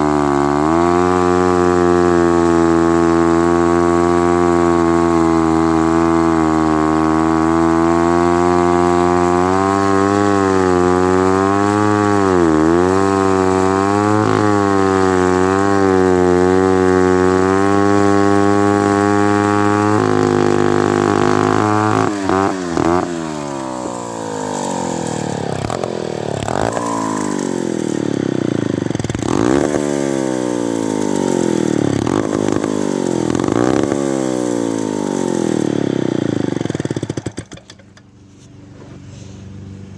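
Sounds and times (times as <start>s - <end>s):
chainsaw engine cutting wood: 0.0s - 38.4s.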